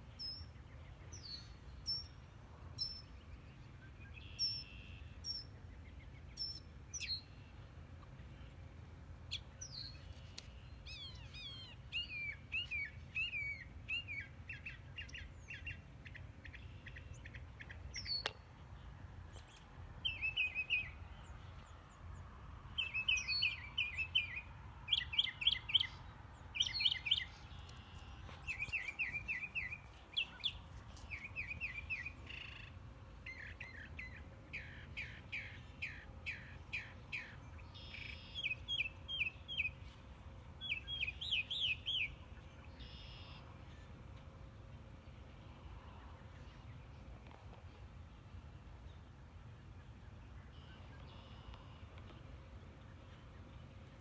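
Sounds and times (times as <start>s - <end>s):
faint low outdoor rumble: 0.0s - 54.0s
songbirds trilling chirps: 9.2s - 54.0s.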